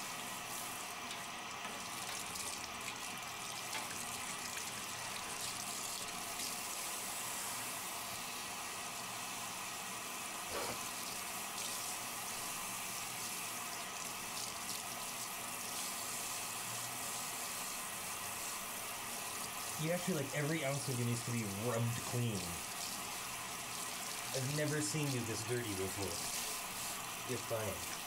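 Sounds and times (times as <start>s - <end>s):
shower water splashing into bathtub: 0.0s - 9.7s, 10.7s - 28.0s.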